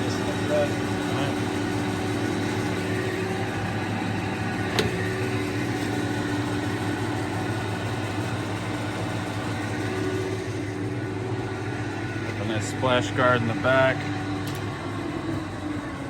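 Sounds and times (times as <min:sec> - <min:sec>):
lathe running with steady hum: 0:00.0 - 0:16.0.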